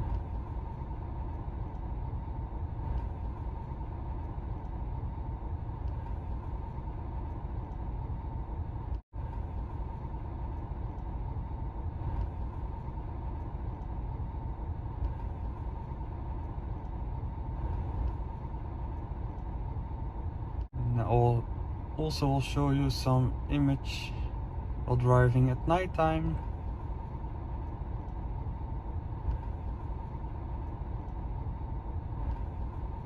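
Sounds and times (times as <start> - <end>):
road and engine rumble: 0.0 - 33.0.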